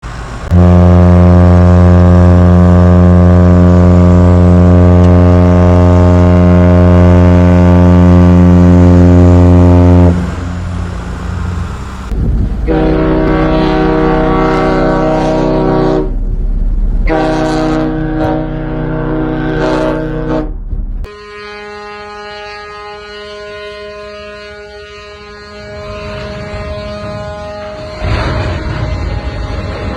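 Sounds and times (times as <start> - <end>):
low ship's horn blast: 0.1 - 29.9
higher-pitched ship's horn: 0.4 - 10.8, 12.6 - 16.2, 17.0 - 29.9.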